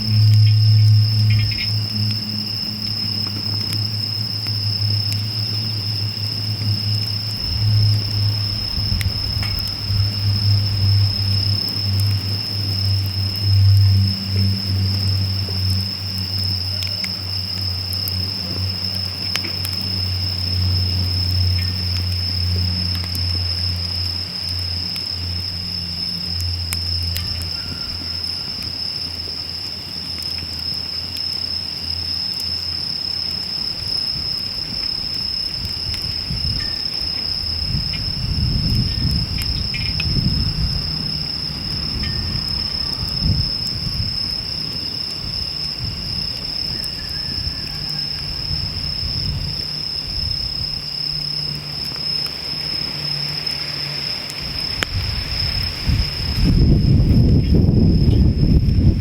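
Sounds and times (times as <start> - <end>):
low rumble: 0.0 - 24.7, 33.7 - 59.0
insect trilling: 0.0 - 59.0.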